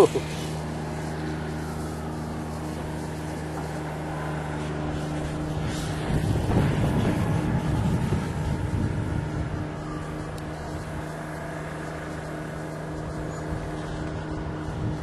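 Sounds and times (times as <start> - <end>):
rc car engine buzzing: 0.0 - 15.0.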